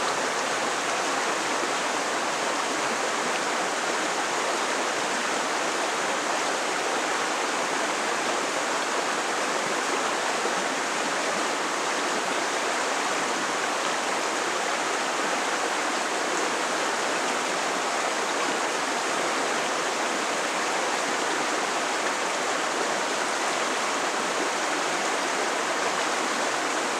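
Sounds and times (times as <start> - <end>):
creek water flowing over rocks: 0.0 - 26.9.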